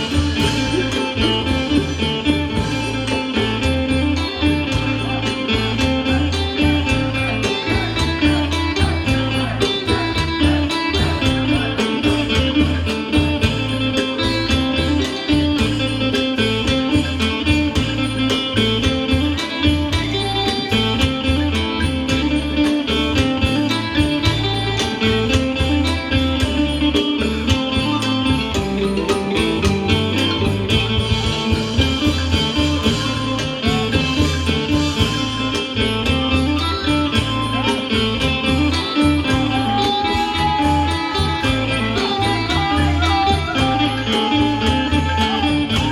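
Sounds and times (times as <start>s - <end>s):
fast drum beat: 0.0s - 45.9s
heavy bass: 0.0s - 45.9s
plucked string melody: 0.0s - 45.9s.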